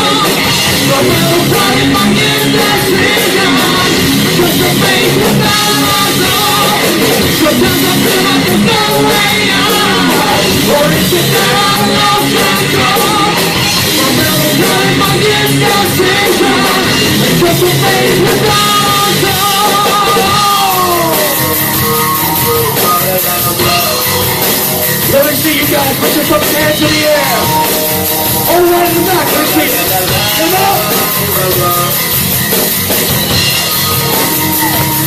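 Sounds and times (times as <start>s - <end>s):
heavy metal band playing: 0.0s - 35.0s
sliding melodic line: 0.0s - 35.0s.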